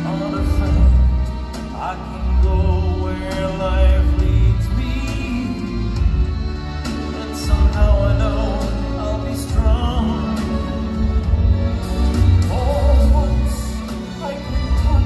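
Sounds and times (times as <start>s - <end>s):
man singing with vibrato: 0.0s - 15.0s
orchestral accompaniment: 0.0s - 15.0s.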